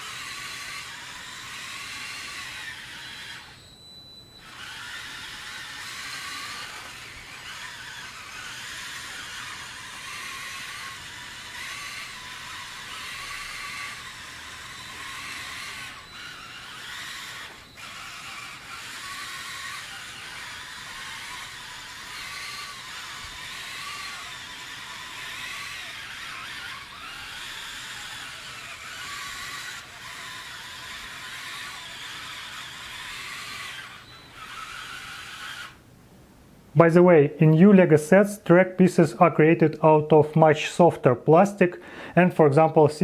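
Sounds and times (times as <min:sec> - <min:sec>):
electric toy motors whining: 0:00.0 - 0:35.9.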